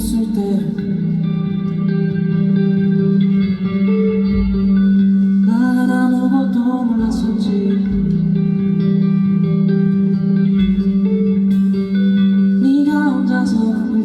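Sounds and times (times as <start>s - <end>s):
electric guitar chords: 0.0s - 14.0s
live rock band playing: 0.0s - 14.0s
person singing: 0.0s - 14.0s.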